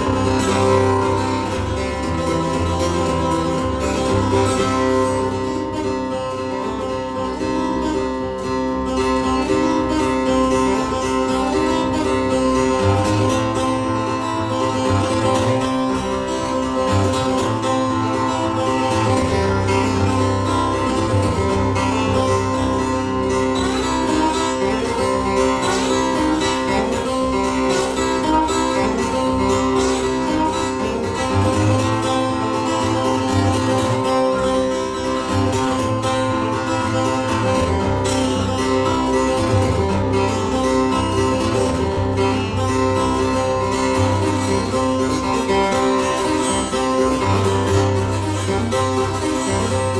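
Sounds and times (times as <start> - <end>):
acoustic guitar playing: 0.0 - 49.9.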